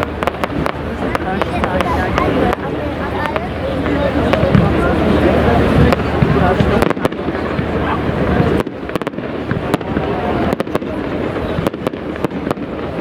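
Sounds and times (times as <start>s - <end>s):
firework cracks and bangs: 0.0s - 13.0s
low rumble of fireworks: 0.0s - 13.0s.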